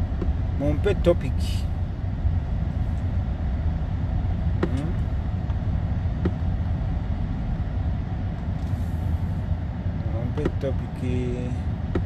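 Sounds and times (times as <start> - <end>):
car cabin low rumble: 0.0 - 12.0.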